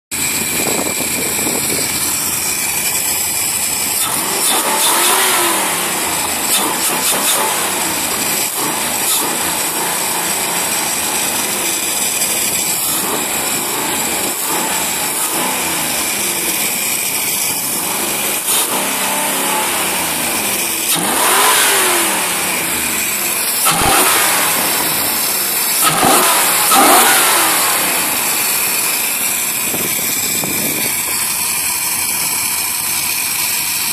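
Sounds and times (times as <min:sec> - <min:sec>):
car engine revving: 0:00.1 - 0:33.9.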